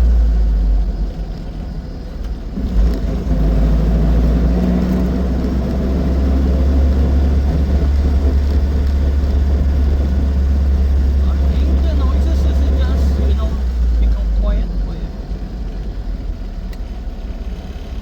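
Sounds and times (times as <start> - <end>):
car engine rumbling: 0.0 - 18.0
road noise: 0.0 - 18.0.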